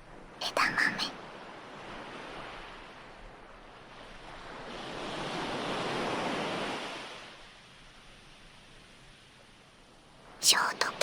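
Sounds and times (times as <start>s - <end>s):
ocean waves washing on shore: 0.2s - 11.0s.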